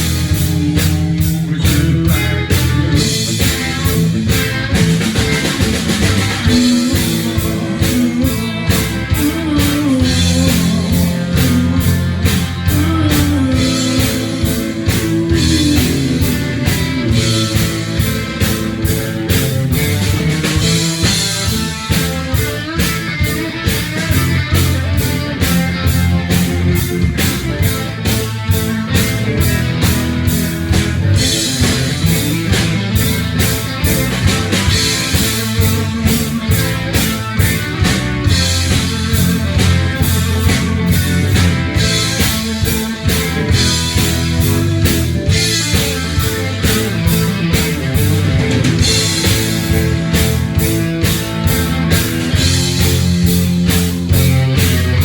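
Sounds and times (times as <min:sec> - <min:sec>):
drum kit steady beat: 0:00.0 - 0:55.0
electric guitar bending notes: 0:00.0 - 0:55.0.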